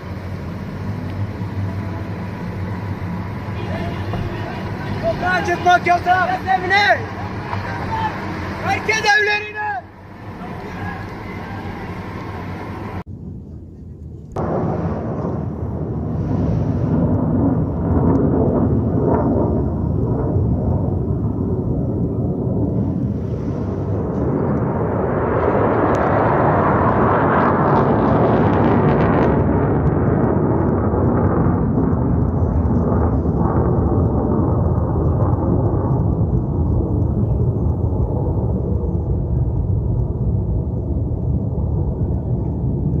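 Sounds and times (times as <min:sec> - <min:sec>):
jet flying low overhead: 0:00.0 - 0:43.0.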